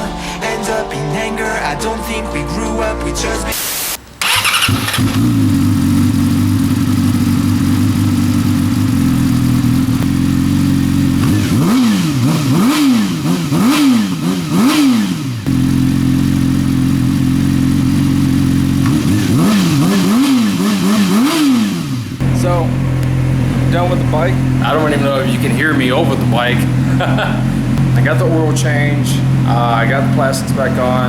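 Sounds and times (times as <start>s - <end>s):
motorcycle engine idling and revving: 4.2s - 31.0s.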